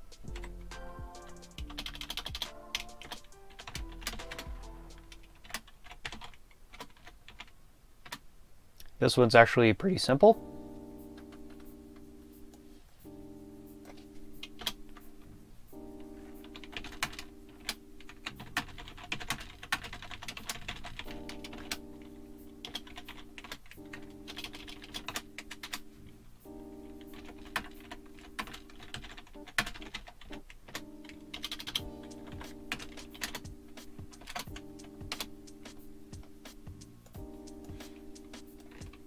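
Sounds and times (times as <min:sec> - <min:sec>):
music of held chords: 0:00.0 - 0:05.6, 0:10.0 - 0:39.0
computer keyboard typing: 0:00.0 - 0:08.2, 0:13.8 - 0:15.1, 0:15.9 - 0:25.9, 0:26.8 - 0:39.0.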